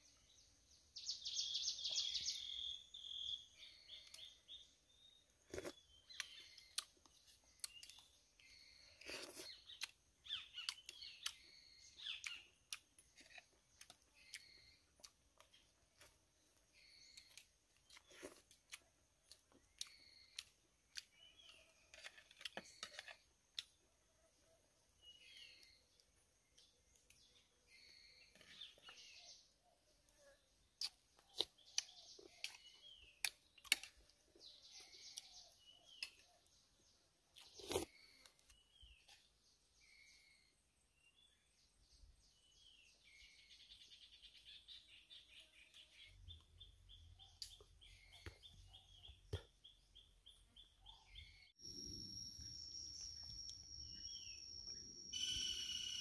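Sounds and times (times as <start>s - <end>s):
faint small bird chirping: 0.0s - 56.0s.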